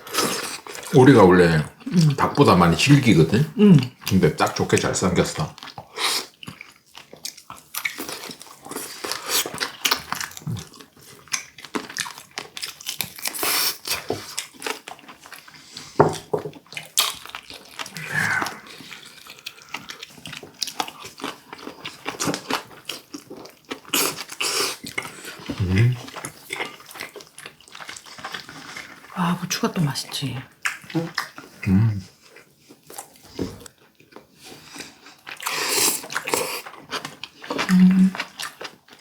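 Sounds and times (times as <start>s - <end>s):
wet chewing and lip-smacking: 5.5s - 29.1s, 30.2s - 39.0s.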